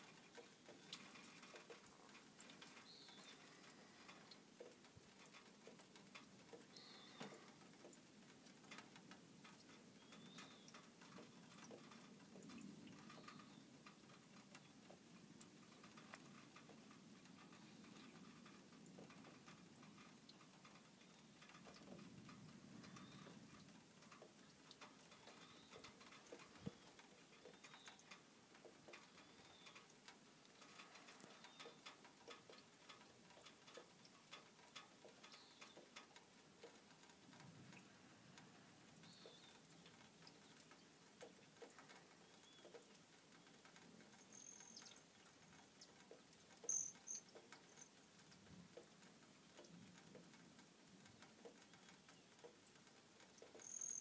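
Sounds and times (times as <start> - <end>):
faint ticks and clicks: 0.0 - 54.0.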